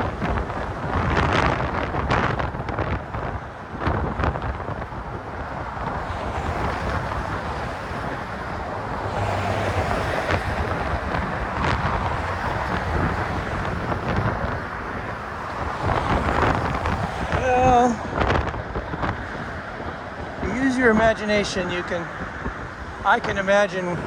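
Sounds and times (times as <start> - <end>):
low rumble of road traffic: 0.0 - 24.0
wind buffeting microphone: 0.0 - 24.0.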